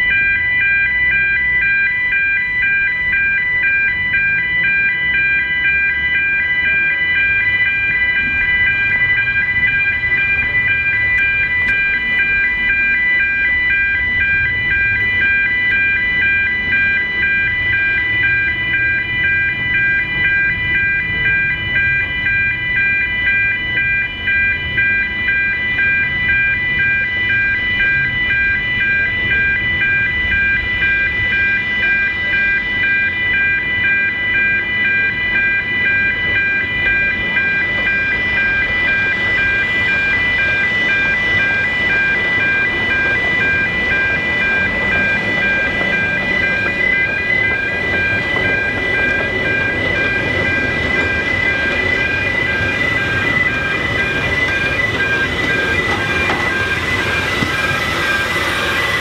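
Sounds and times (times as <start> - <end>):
pulsing crossing alarm tone: 0.0 - 59.0.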